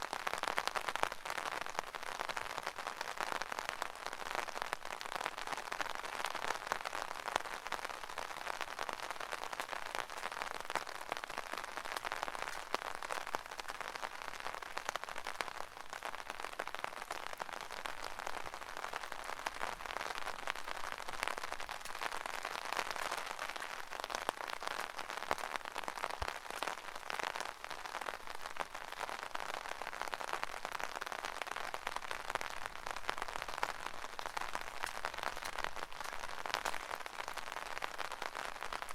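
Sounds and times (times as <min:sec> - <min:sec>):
rain pattering on an umbrella: 0:00.0 - 0:38.9.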